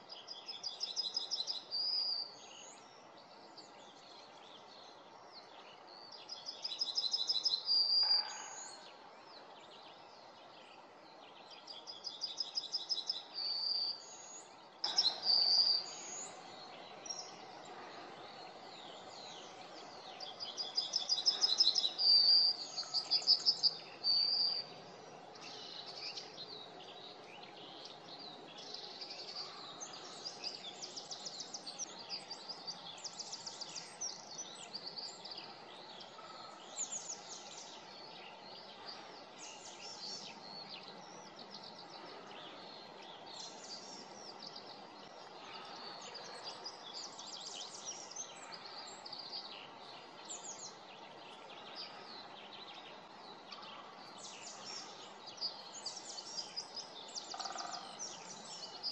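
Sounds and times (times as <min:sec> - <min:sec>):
small birds calling: 0:11.7 - 0:58.9.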